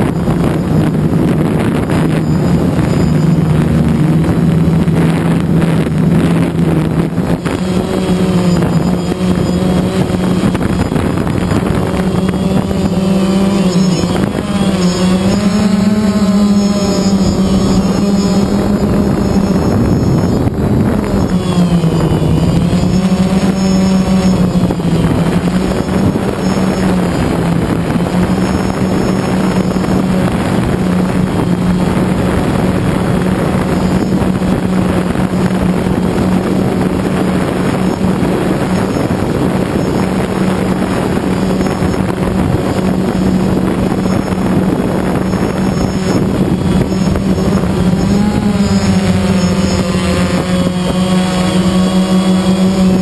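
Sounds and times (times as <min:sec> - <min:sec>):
drone propellers buzzing: 0:00.0 - 0:53.0
wind rushing over microphone: 0:00.0 - 0:53.0.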